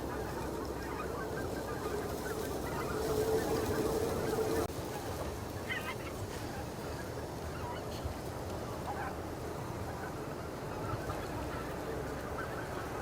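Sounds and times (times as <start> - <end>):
geese honking: 0.0 - 13.0
low background noise: 0.0 - 13.0.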